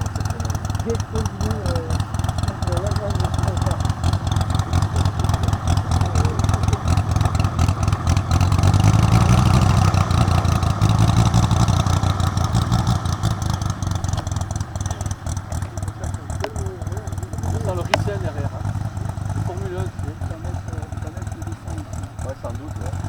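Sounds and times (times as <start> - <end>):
simulated radial engine rumble: 0.0 - 23.0.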